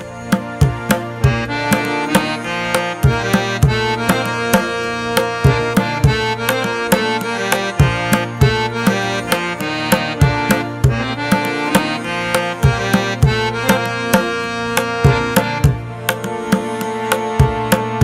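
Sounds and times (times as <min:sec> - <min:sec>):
melody of held notes: 0:00.0 - 0:18.0
rhythmic drum beat: 0:00.0 - 0:18.0.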